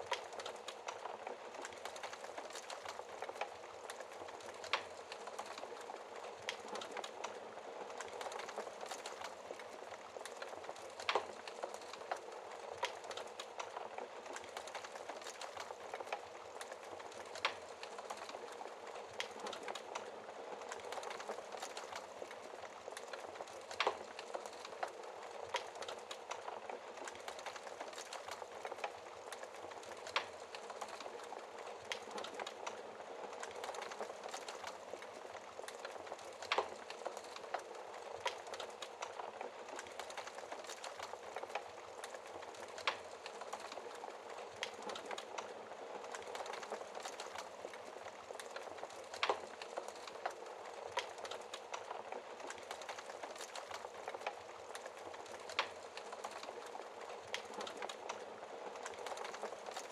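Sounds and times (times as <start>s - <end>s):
soft hiss of flames: 0.0s - 59.9s
wood fire crackling: 0.0s - 59.9s.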